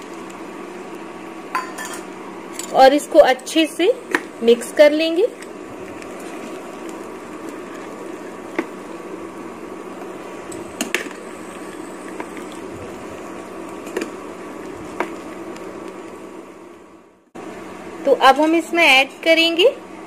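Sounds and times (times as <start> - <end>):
food sizzling in a pan: 0.0 - 16.6.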